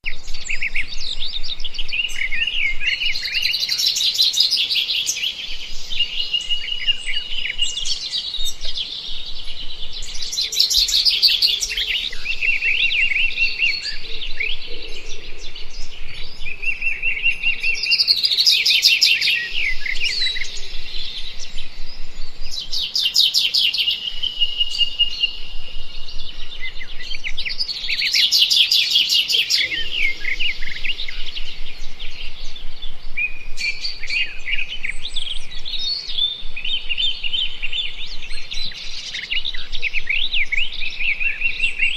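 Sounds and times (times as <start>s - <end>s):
birds singing in chorus: 0.0s - 41.9s.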